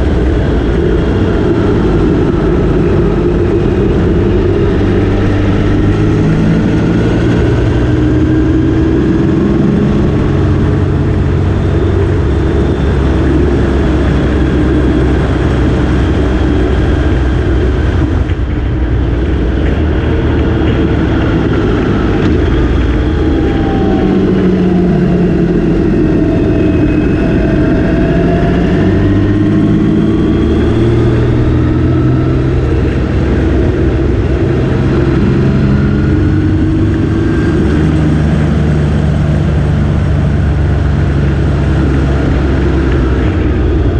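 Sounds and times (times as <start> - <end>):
motorcycle engine revving: 0.0 - 43.9
steady rushing noise: 0.0 - 43.9.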